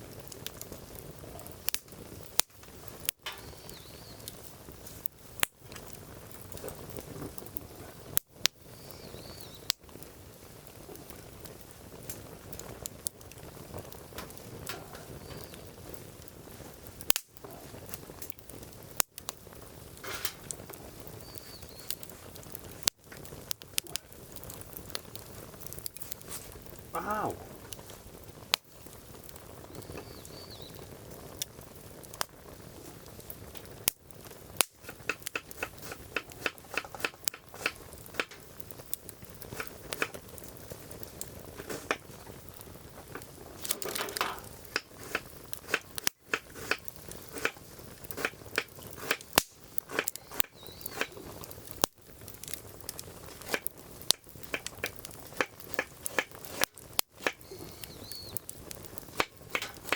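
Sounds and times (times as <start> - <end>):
firewood crackling: 0.0 - 59.9.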